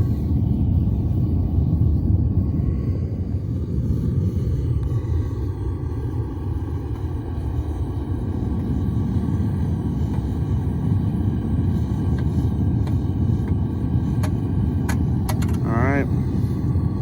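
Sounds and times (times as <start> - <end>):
gas burner roaring: 0.0 - 17.0.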